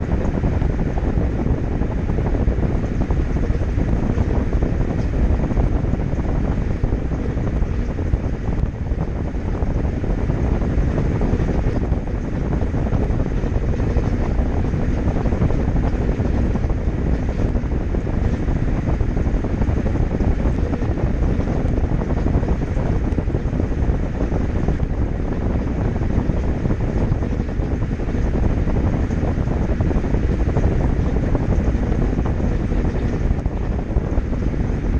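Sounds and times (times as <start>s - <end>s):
washing machine drum spinning: 0.0s - 34.9s.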